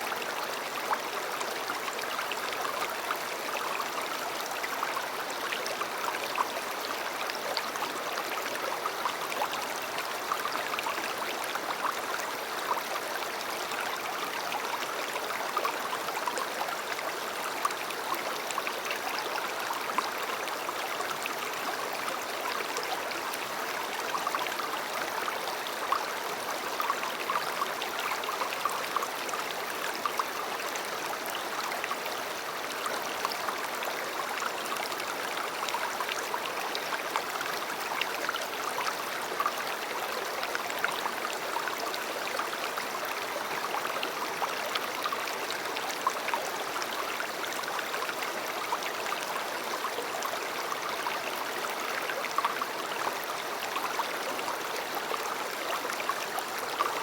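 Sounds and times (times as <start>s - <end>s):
river water burbling over stones: 0.0s - 57.0s.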